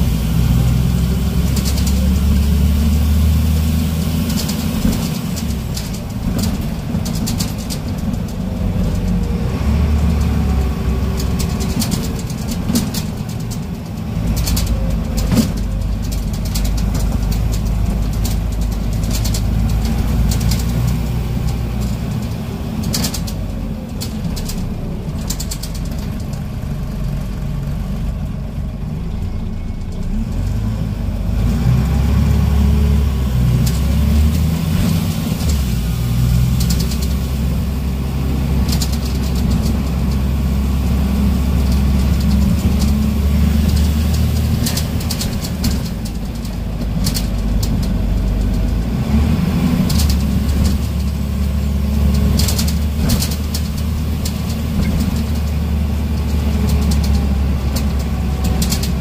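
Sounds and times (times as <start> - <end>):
bus diesel engine drone: 0.0 - 59.0
rattles and clicks of bus body: 0.0 - 59.0.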